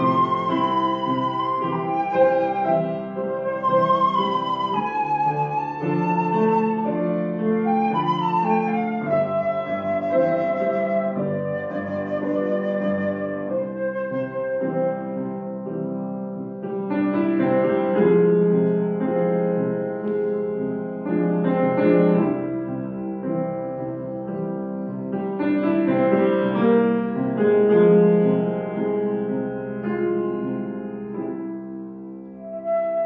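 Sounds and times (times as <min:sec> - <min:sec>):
gentle classical piano piece: 0:00.0 - 0:33.0.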